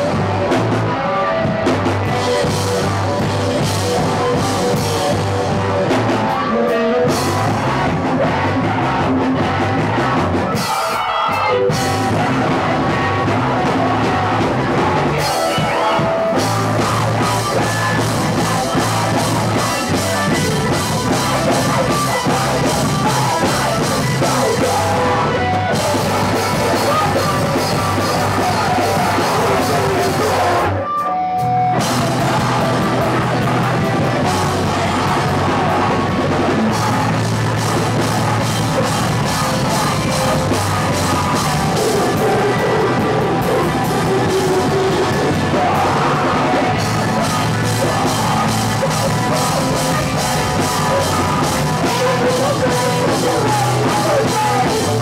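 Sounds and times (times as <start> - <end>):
bass guitar: 0.0 - 55.0
distorted electric guitars: 0.0 - 55.0
pounding drum kit: 0.0 - 55.0.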